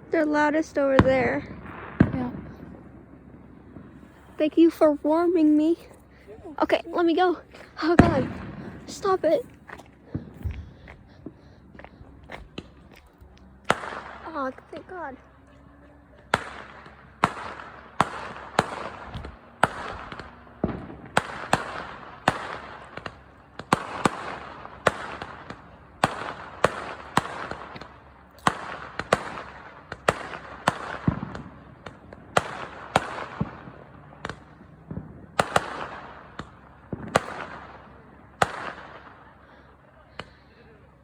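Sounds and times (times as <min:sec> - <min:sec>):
fireworks bangs echoing: 0:00.0 - 0:40.9.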